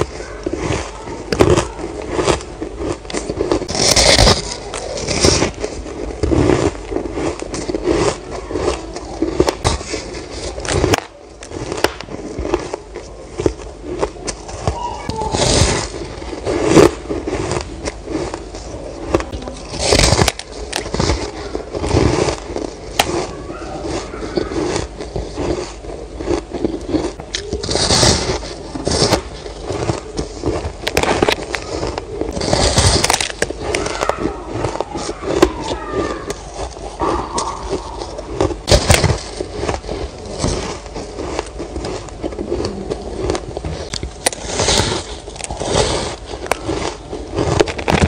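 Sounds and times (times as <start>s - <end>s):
ice crunching while chewing: 0.0s - 48.0s.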